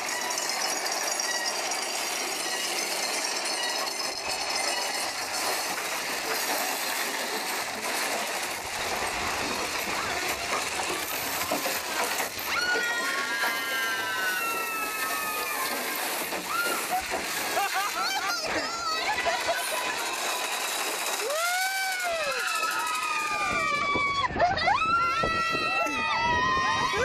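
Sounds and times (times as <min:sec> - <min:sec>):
roller coaster cars clattering: 0:00.0 - 0:27.0.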